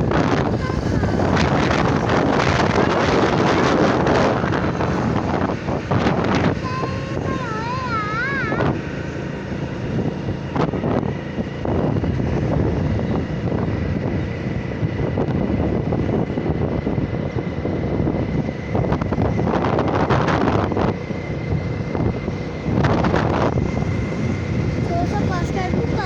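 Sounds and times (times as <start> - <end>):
motorcycle engine drone: 0.0 - 26.0
wind on microphone: 0.0 - 26.0.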